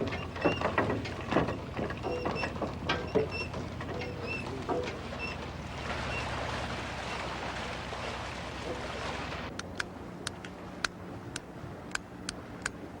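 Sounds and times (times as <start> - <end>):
motorboat engine running: 0.0 - 13.0
water noise: 0.0 - 13.0.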